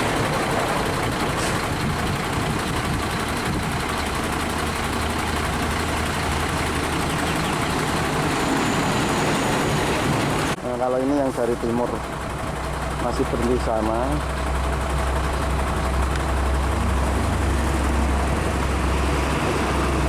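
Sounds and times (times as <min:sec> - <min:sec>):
traffic noise: 0:00.0 - 0:20.0
truck engines idling: 0:00.0 - 0:20.0.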